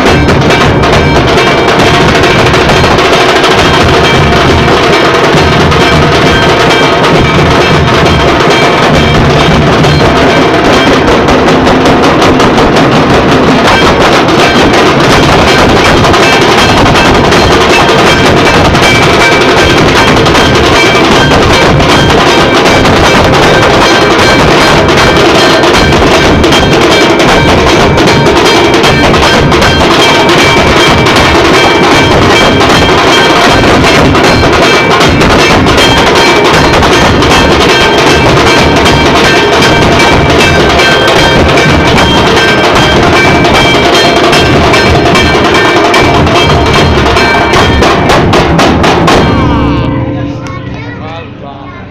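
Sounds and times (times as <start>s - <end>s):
loud music with heavy drums: 0.0s - 51.9s.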